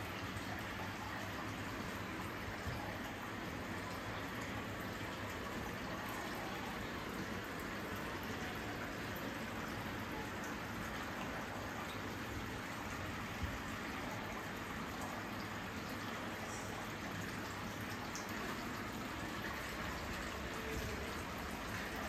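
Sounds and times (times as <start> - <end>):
falling water: 0.0 - 22.0.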